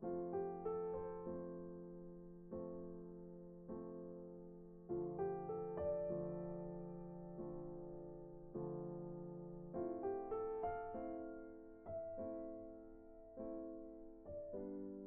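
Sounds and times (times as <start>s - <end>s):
slow electric piano melody: 0.0s - 15.0s.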